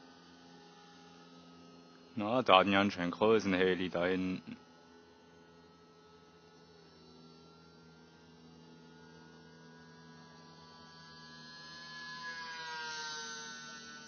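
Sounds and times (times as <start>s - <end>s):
model plane motor whine: 0.0s - 14.0s.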